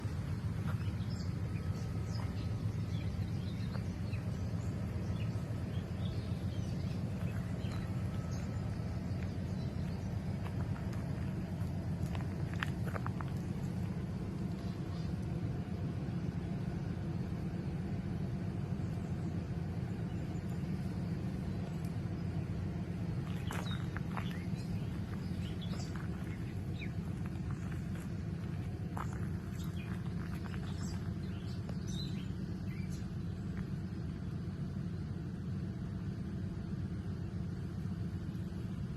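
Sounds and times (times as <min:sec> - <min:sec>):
low rumble: 0:00.0 - 0:38.9.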